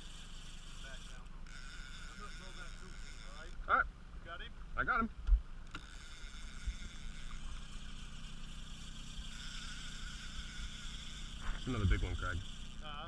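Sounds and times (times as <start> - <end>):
outboard motor running: 0.0 - 13.0
wind: 0.0 - 13.0.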